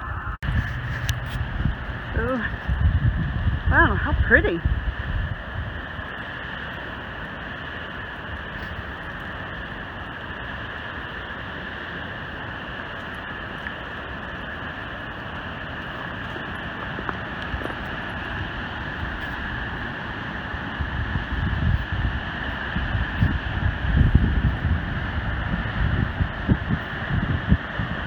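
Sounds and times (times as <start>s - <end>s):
waterfall roaring: 5.3s - 28.0s.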